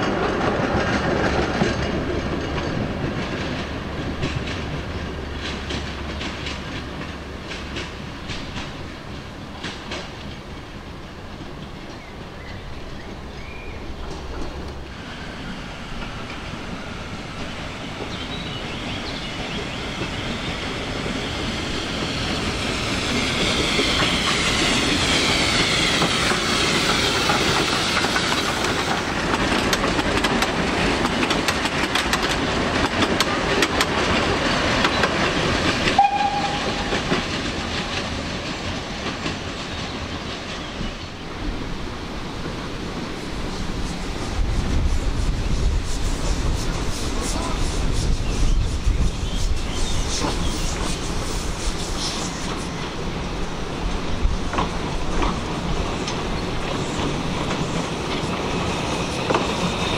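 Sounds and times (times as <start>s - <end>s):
wheels clicking over rail joints: 0.0s - 15.0s, 15.9s - 41.7s, 49.8s - 59.9s
steam train running past: 0.0s - 59.9s.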